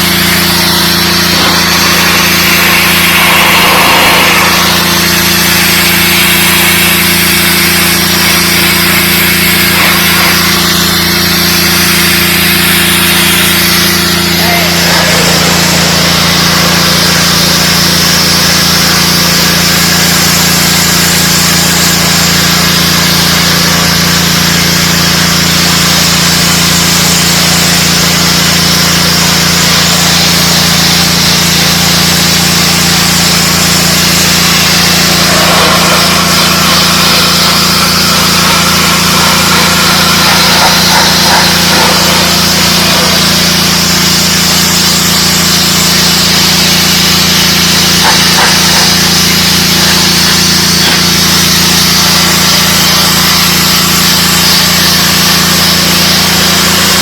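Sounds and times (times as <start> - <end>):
pressure washer engine: 0.0 - 57.0
water jet spraying on concrete: 0.0 - 57.0.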